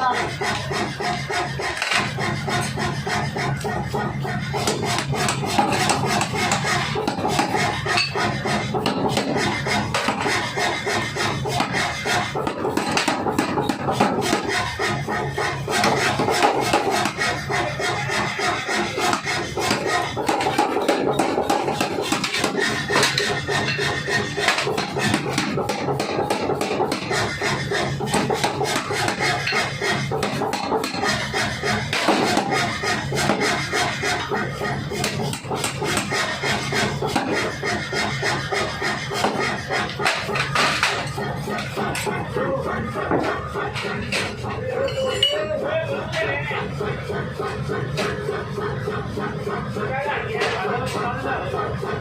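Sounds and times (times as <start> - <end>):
forging hammer striking hot steel: 0.2 - 45.6.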